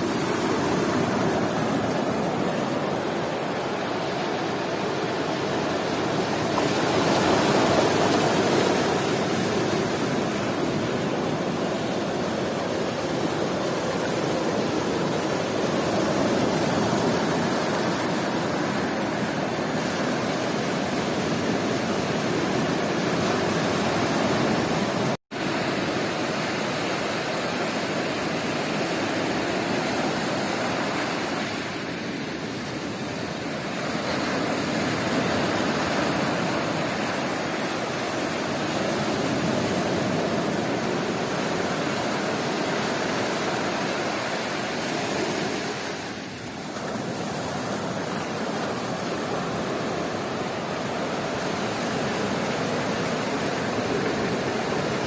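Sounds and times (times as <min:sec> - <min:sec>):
surf washing onto beach: 0:00.0 - 0:55.0.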